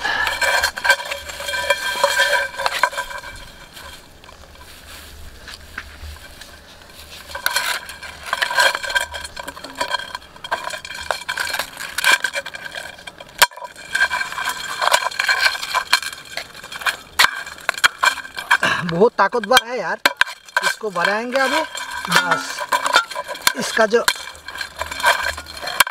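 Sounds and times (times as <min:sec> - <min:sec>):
knife scraping iron pan: 0:00.0 - 0:04.7, 0:06.2 - 0:25.9.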